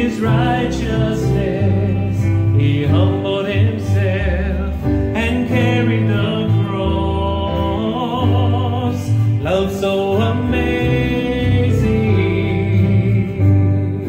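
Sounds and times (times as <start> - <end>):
live band of guitars and keyboard: 0.0 - 14.0
man singing into a microphone: 0.0 - 14.0
sustained low bass notes: 0.0 - 14.0.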